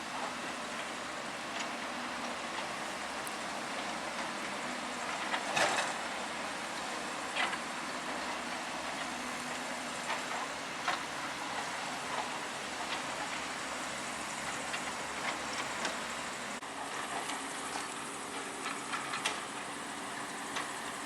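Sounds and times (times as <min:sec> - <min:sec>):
heavy machinery noise: 0:00.0 - 0:21.0.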